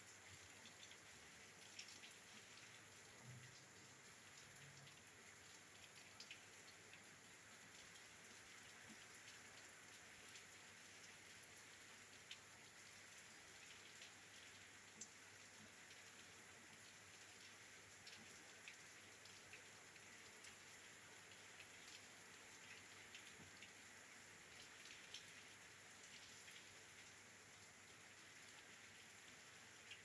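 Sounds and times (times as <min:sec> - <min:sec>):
rain pattering on window: 0:00.0 - 0:30.0
sharp raindrop ticks: 0:00.4 - 0:23.8, 0:24.4 - 0:27.2.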